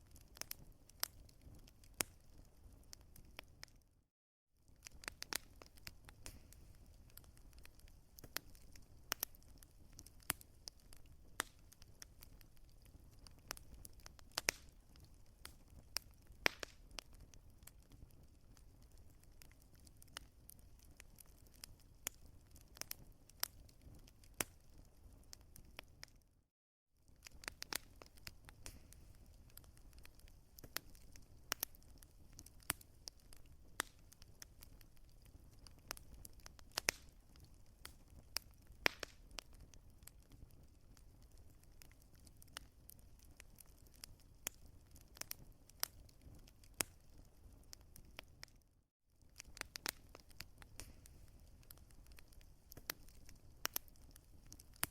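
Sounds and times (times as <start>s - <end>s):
wood fire crackling: 0.0s - 3.9s, 4.6s - 26.3s, 27.0s - 54.9s.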